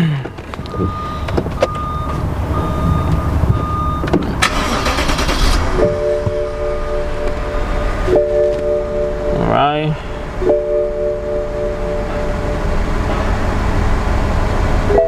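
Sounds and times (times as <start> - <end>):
car engine starting and running: 0.0 - 15.0
car chime beeping: 0.6 - 13.6
steady warning tone: 0.6 - 15.0.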